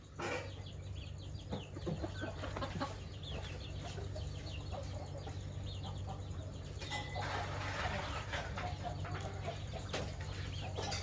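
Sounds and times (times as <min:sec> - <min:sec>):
chickens clucking: 0:00.0 - 0:11.0
chicks peeping: 0:00.0 - 0:11.0
steady low hum: 0:00.0 - 0:11.0.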